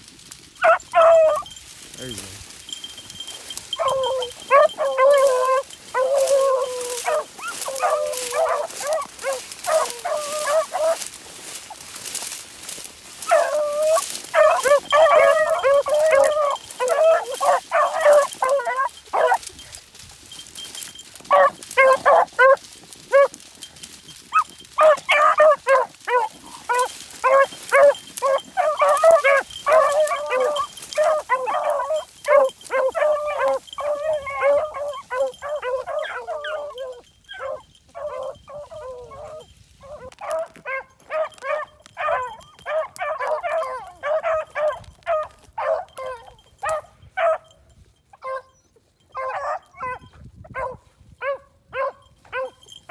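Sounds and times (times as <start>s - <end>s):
dogs baying and yelping: 0.5s - 52.9s.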